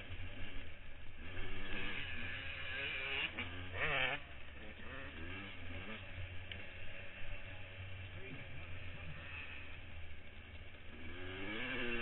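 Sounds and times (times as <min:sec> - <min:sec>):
dirt bike engine running hard: 0:00.0 - 0:12.0.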